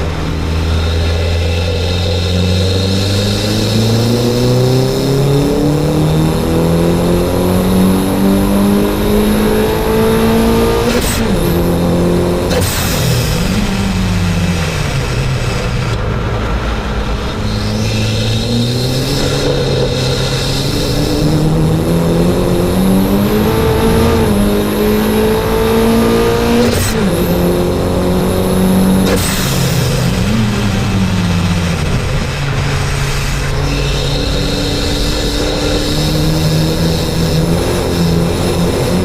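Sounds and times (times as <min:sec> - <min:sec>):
car engine accelerating hard: 0:00.0 - 0:39.0
thin high whine: 0:00.0 - 0:39.0.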